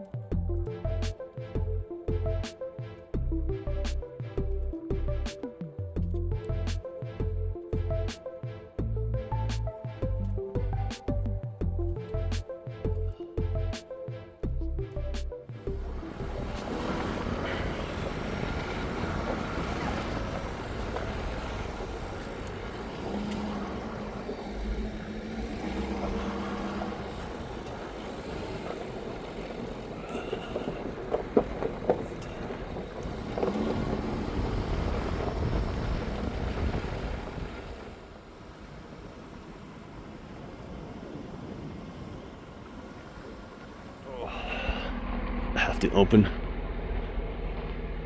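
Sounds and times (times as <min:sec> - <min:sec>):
pickup truck driving on dirt road: 0:00.0 - 0:48.0.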